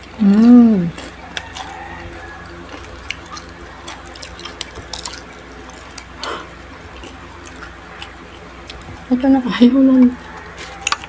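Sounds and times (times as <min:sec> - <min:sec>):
chewing crispy food: 0:00.0 - 0:11.0.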